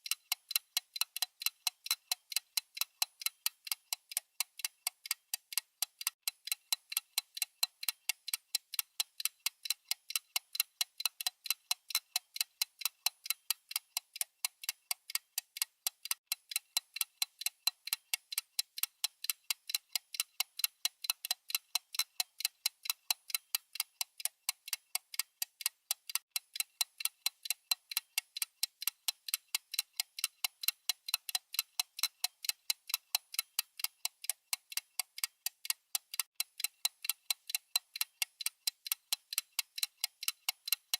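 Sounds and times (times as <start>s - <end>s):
watch ticking: 0.0s - 40.9s.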